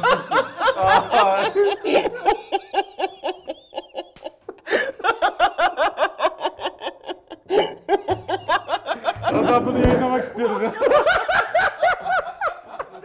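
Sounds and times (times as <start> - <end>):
men laughing hard: 0.0 - 13.0.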